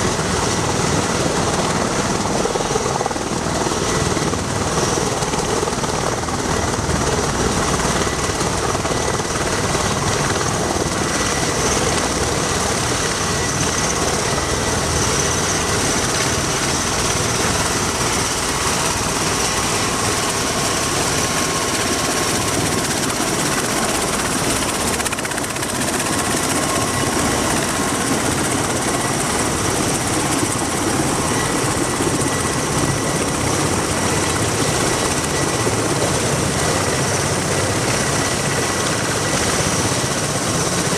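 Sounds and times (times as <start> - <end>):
aircraft rotors and engines: 0.0 - 40.9.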